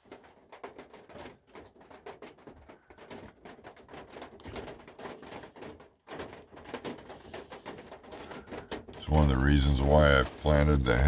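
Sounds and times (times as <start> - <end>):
rain tapping on a vehicle roof: 0.0 - 11.0.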